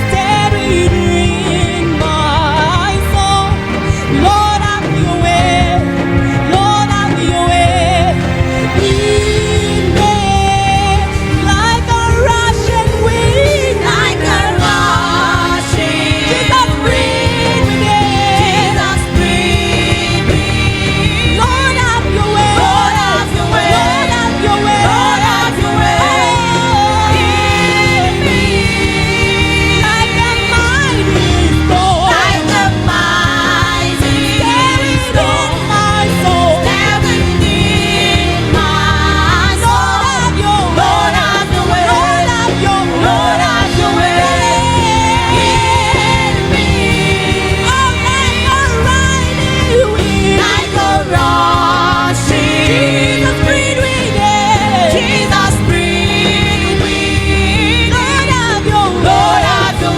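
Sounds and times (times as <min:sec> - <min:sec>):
band accompaniment: 0:00.0 - 0:59.9
voices singing: 0:00.0 - 0:59.9.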